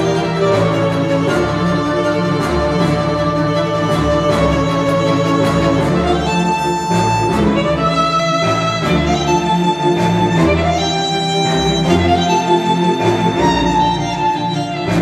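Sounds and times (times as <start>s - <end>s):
cinematic string music: 0.0s - 15.0s.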